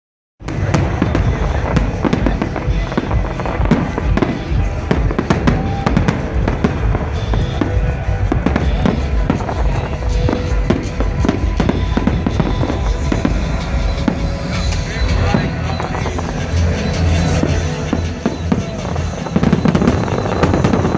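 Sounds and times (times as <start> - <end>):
low rumble: 0.4 - 19.4
fireworks cracking and banging: 0.4 - 20.9
loud dance music: 0.4 - 20.9.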